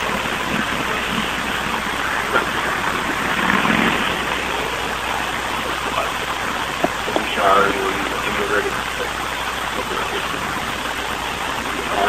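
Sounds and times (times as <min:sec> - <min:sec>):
car road and engine noise: 0:00.0 - 0:12.0
recording hiss: 0:00.0 - 0:12.0.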